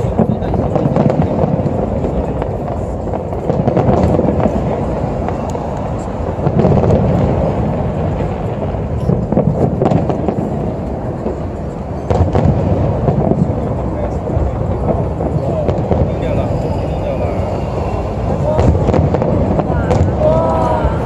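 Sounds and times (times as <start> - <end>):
firework crackling pops: 0.0 - 21.0
firework shell bursts rumbling: 0.0 - 21.0.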